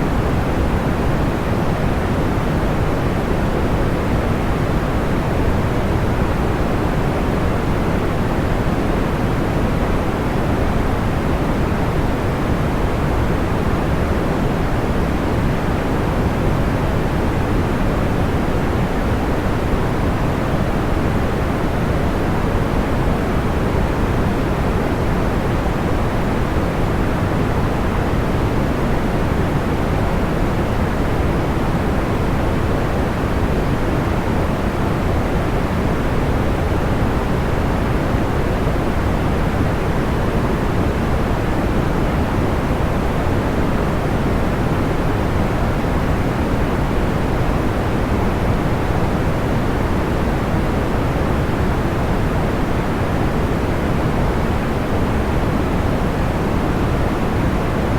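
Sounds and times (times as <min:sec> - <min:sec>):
soft white noise: 0:00.0 - 0:57.9.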